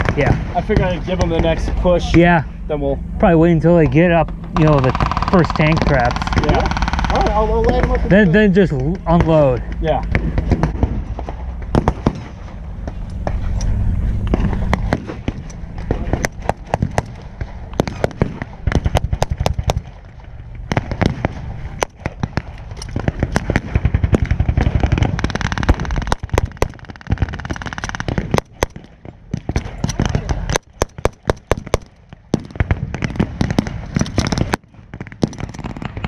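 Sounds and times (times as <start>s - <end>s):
gunfire shots and automatic bursts: 3.7s - 36.0s.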